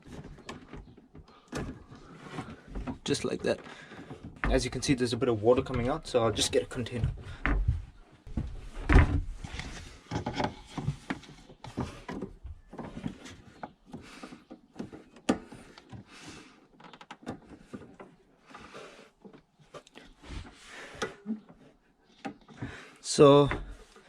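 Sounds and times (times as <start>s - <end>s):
knocks and thumps of handling: 0.0s - 24.0s.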